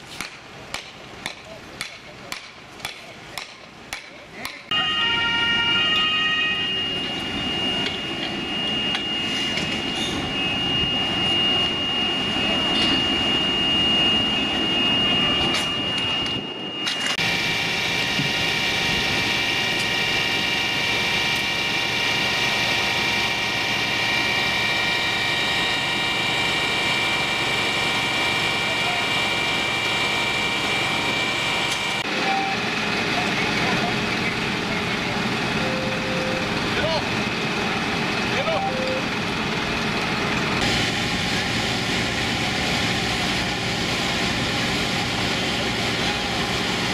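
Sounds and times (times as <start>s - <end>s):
fire engine pumps droning: 4.7s - 46.9s.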